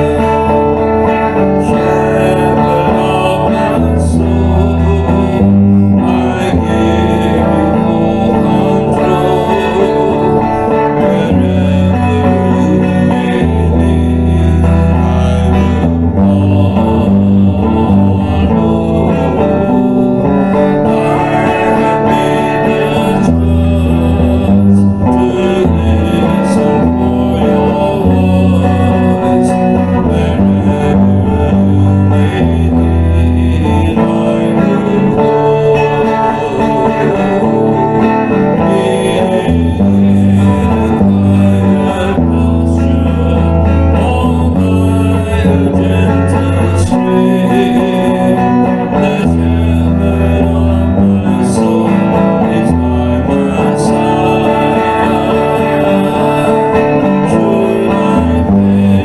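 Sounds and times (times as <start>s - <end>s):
electric guitar playing: 0.0s - 59.0s
man singing: 0.0s - 59.0s.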